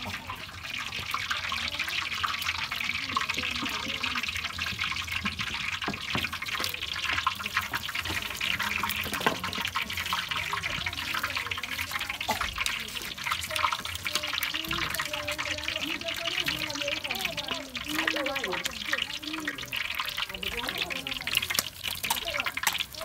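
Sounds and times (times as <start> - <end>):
running water splashing: 0.0 - 23.0.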